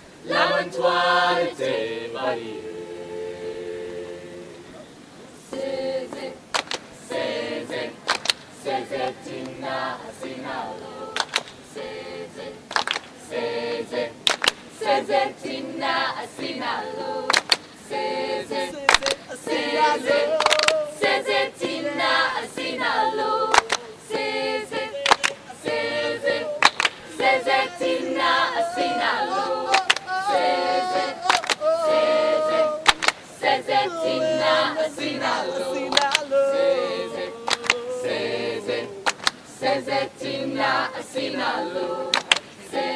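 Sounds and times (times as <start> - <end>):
group singing a cappella: 0.0 - 42.9.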